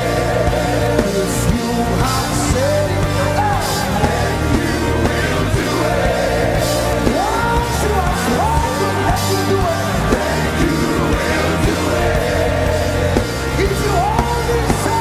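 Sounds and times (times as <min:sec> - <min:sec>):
live worship band music: 0:00.0 - 0:15.0.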